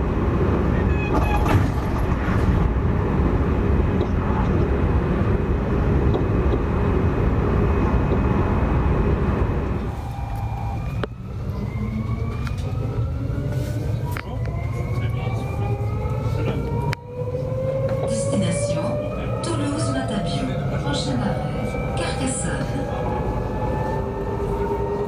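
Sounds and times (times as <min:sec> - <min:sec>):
train rolling rumble: 0:00.0 - 0:25.0.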